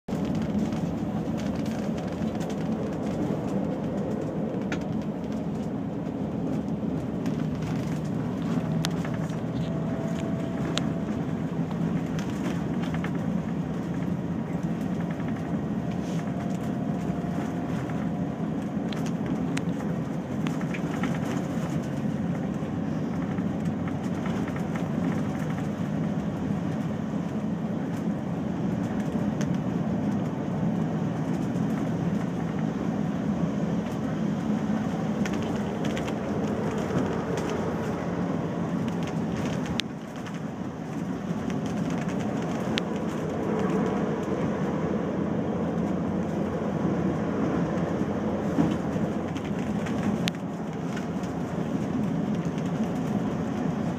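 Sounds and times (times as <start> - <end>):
coach engine and tyres droning: 0.0 - 53.9
small rattles and clicks: 0.1 - 32.8, 33.7 - 44.5, 47.6 - 53.9.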